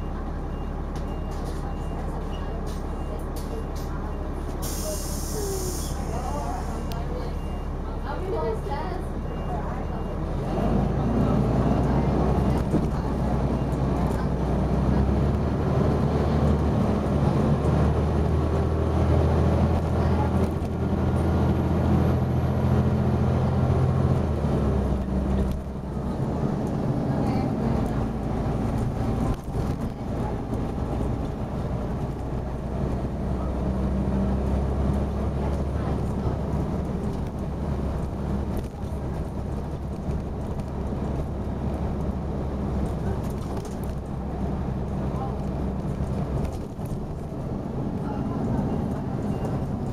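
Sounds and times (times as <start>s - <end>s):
bus diesel engine under load: 0.0s - 49.9s.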